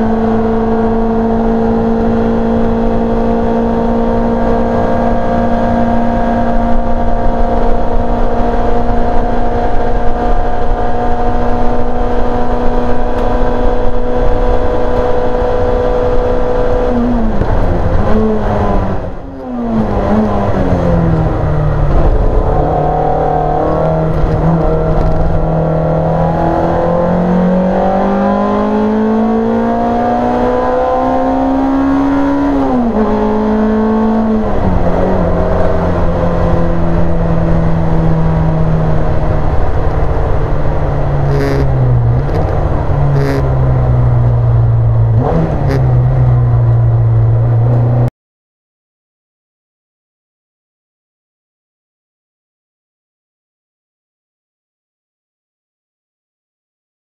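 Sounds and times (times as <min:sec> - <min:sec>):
racing car engine revving: 0:00.0 - 0:48.1.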